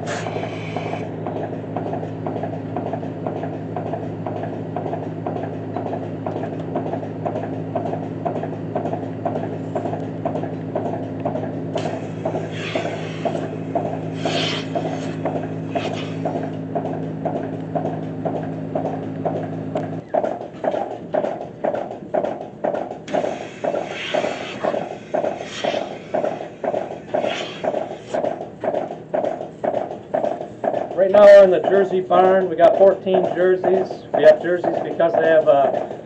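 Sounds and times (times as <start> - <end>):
milk pump motor hum: 0.0 - 36.0
milking machine pulsators rasping: 0.0 - 36.0.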